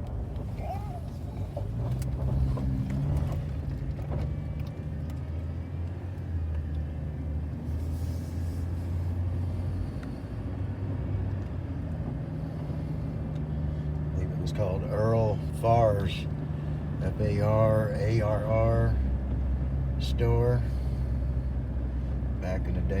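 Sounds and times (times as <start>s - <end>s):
car engine drone: 0.0s - 23.0s
road noise inside car: 0.0s - 23.0s.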